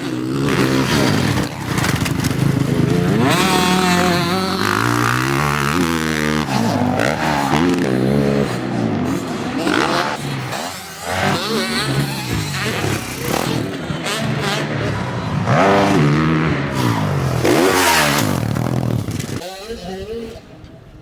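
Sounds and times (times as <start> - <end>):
motocross bike engines revving: 0.0 - 21.0.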